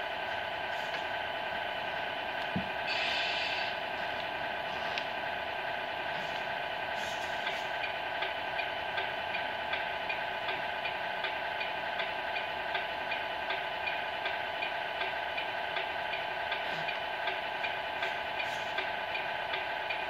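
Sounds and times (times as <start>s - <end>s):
electronic hum with regular ticks: 0.0s - 20.0s.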